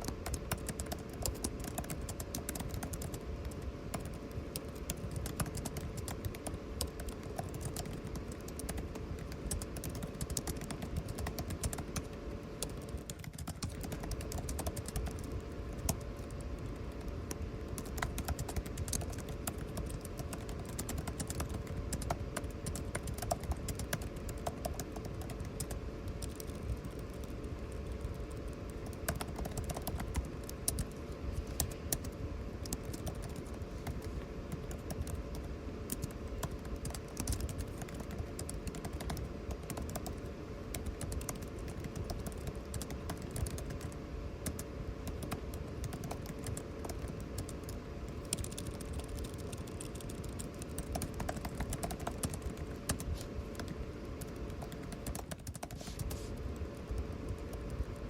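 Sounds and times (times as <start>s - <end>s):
air conditioning hum: 0.0s - 58.0s
typing on computer keyboard: 0.0s - 58.0s.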